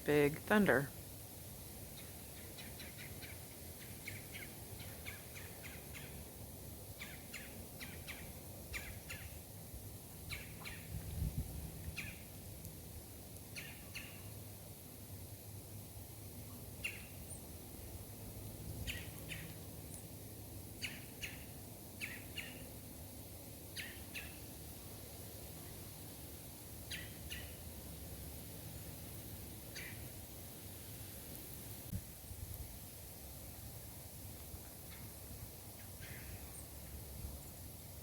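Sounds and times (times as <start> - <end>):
steady hiss: 0.0 - 38.0.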